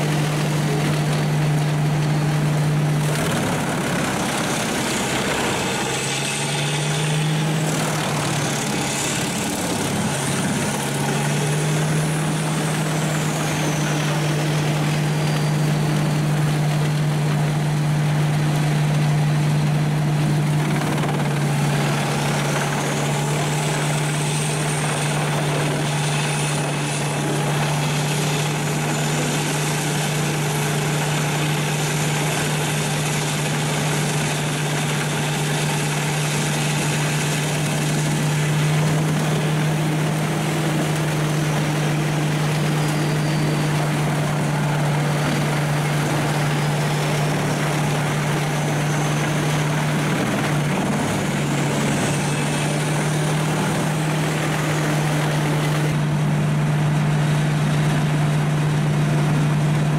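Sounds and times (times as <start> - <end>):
engine running steadily: 0.0 - 59.9
faint high whine: 0.0 - 59.9.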